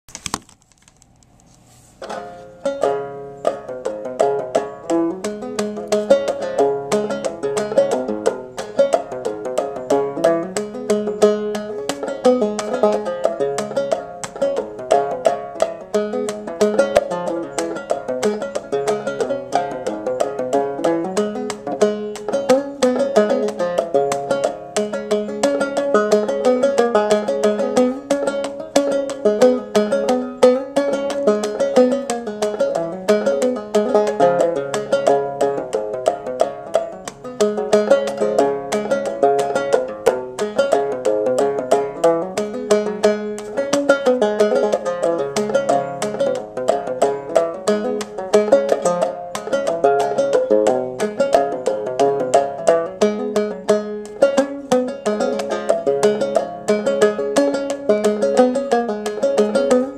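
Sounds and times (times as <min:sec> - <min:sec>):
banjo picking a tune: 0:02.0 - 0:59.9.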